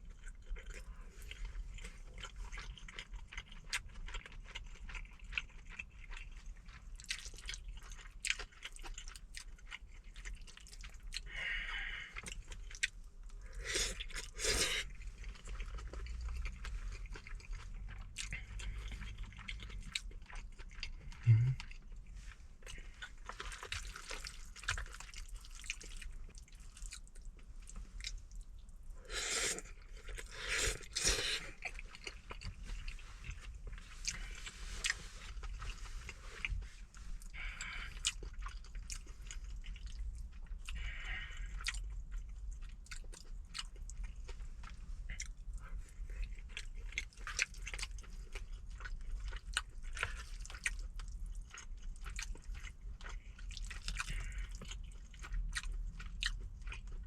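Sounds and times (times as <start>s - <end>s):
chewing and mouth smacking: 0.0s - 57.0s.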